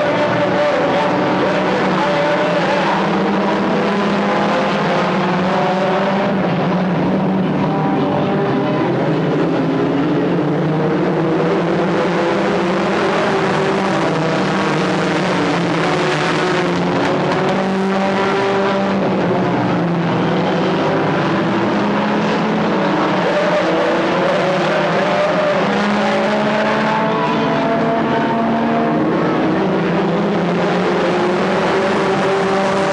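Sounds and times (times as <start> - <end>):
stock car engines racing: 0.0 - 32.9.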